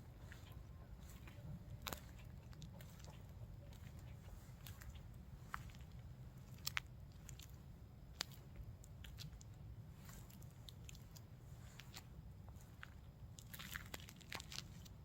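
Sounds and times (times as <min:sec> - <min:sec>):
small crackles and clicks: 0:00.2 - 0:15.0.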